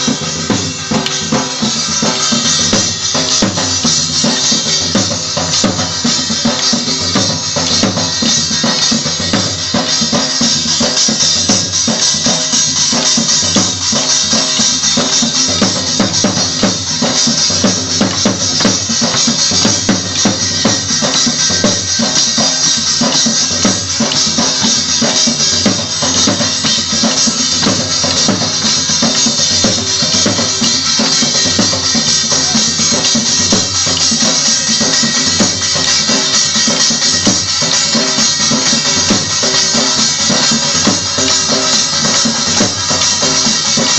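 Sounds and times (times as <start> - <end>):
driving drum beat: 0.0 - 43.9.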